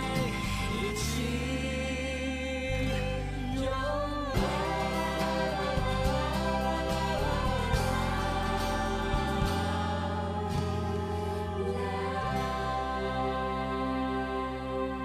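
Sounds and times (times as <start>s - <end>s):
slow music with sustained chords: 0.0s - 15.0s
sung melody: 0.0s - 15.0s.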